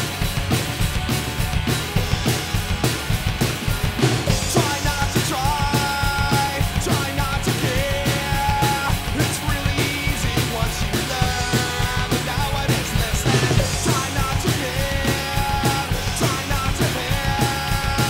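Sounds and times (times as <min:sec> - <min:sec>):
drum kit played hard: 0:00.0 - 0:18.0
rock song: 0:00.0 - 0:18.0.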